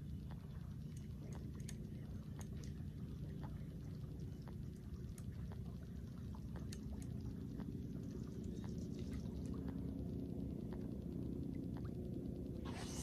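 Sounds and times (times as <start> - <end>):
faint ticks: 0.0 - 12.6
low background rumble: 0.0 - 13.0.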